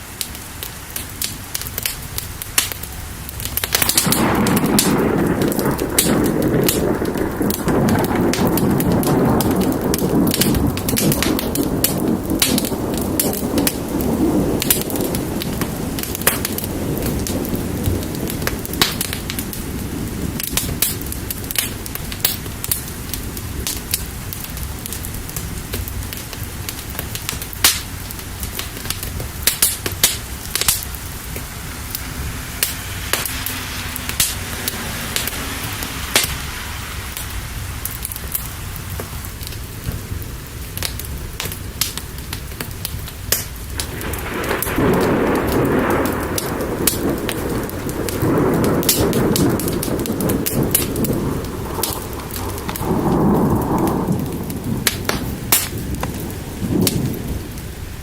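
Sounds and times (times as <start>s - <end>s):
fire crackling: 0.0s - 58.0s
steady rain: 0.0s - 58.0s
thunder rumbling: 0.0s - 58.0s.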